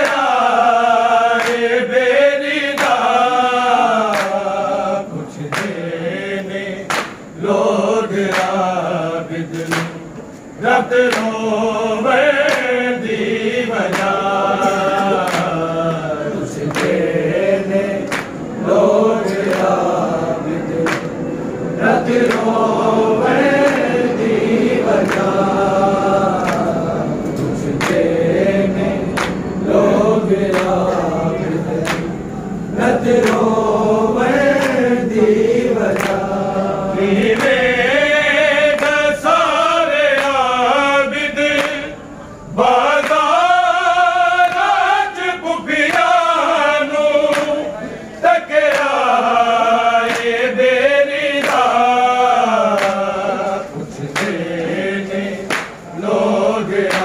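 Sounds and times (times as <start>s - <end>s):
men chanting a lament: 0.0s - 57.0s.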